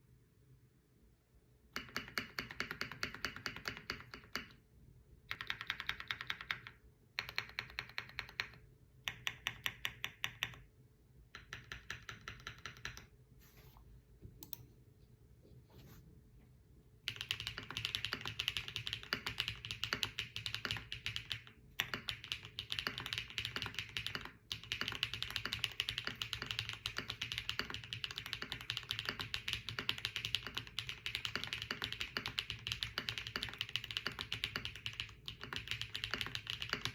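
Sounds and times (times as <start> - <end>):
mechanical keyboard typing: 1.8 - 4.6, 5.3 - 10.7, 11.3 - 13.1, 17.1 - 36.9.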